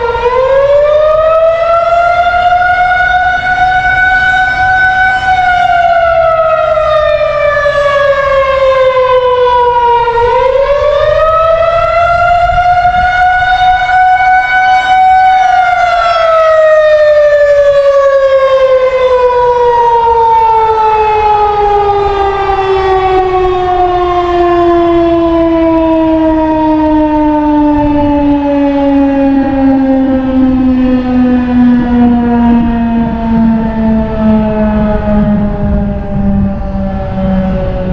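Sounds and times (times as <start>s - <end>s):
tornado siren wailing: 0.0s - 37.9s.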